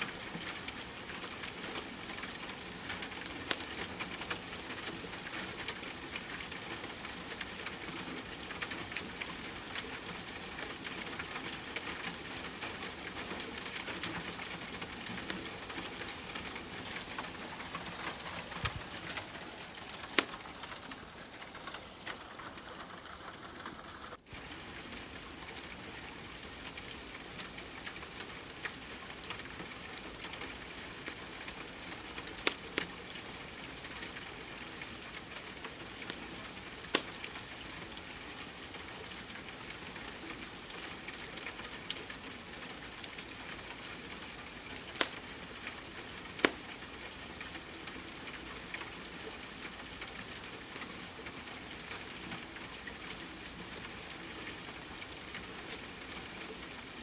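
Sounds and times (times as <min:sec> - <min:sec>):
rain hiss: 0:00.0 - 0:57.0
wood fire crackling: 0:00.0 - 0:57.0.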